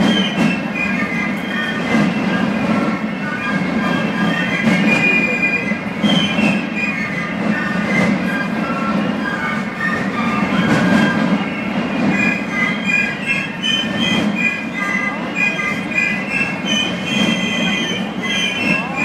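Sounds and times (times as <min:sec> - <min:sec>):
piccolo melody: 0:00.0 - 0:19.0.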